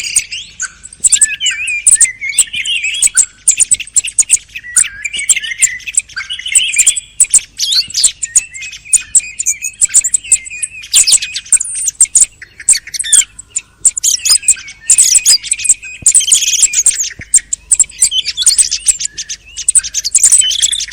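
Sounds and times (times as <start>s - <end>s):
thrushes singing and calling: 0.0s - 20.9s.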